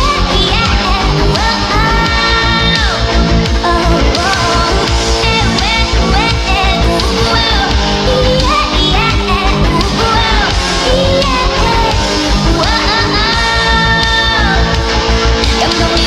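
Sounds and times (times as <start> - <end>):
sped-up pop song: 0.0 - 16.0.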